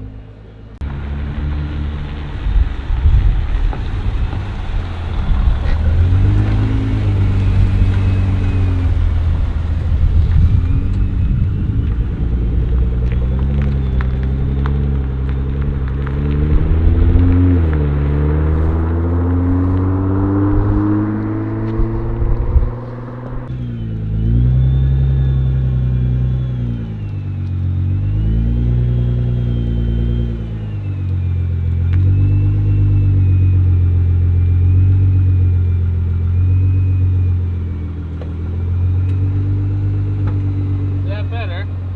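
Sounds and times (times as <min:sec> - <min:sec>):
car engine rumbling: 0:00.0 - 0:41.9
wind and road rush: 0:00.0 - 0:41.9.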